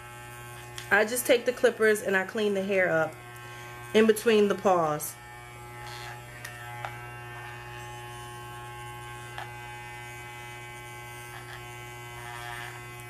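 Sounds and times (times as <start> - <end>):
pet hair clippers buzzing: 0.0 - 13.0.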